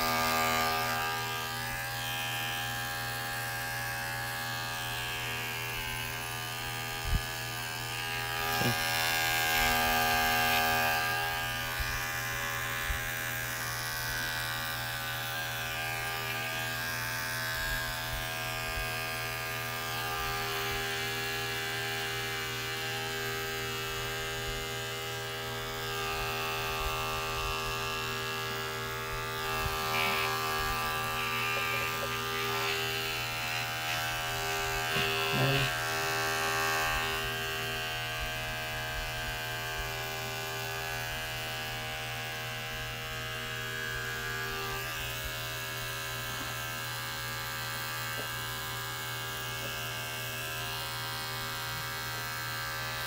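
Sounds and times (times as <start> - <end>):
electric clipper buzzing: 0.0 - 53.0.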